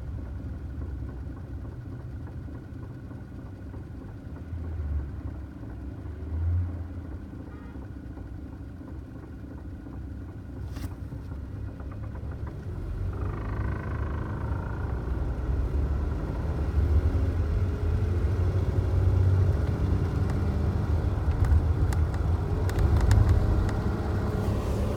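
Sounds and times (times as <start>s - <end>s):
truck engine rumble: 3.6s - 24.9s.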